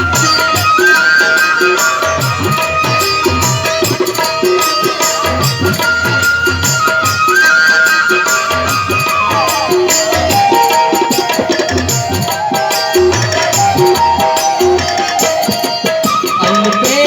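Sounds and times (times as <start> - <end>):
gliding melody: 0.0 - 17.0
tabla rhythm: 0.0 - 17.0.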